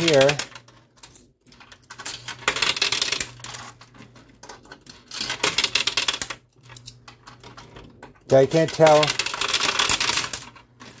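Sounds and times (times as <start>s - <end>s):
coins clattering in machine: 0.0s - 11.0s.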